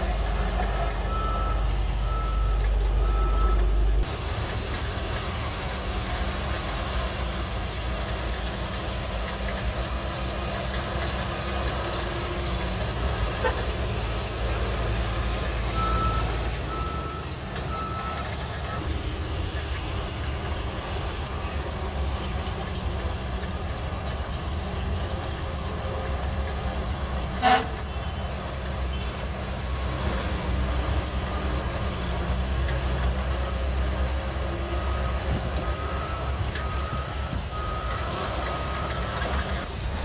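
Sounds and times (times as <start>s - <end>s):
bulldozer diesel engine drone: 0.0s - 40.0s.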